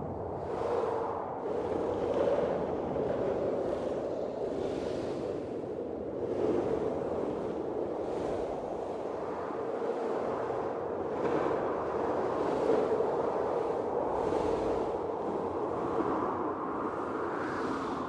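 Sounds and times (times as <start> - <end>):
blizzard wind gusting: 0.0 - 18.0.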